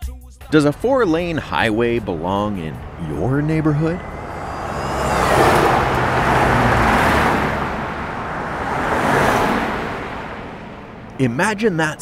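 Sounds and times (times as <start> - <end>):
road traffic passing close by: 0.6 - 12.0.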